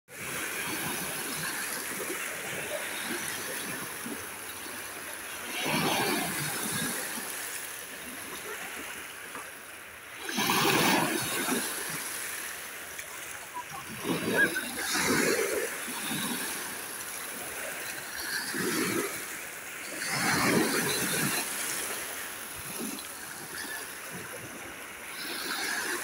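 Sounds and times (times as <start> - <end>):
waves breaking on pebbles: 0.1 - 26.0.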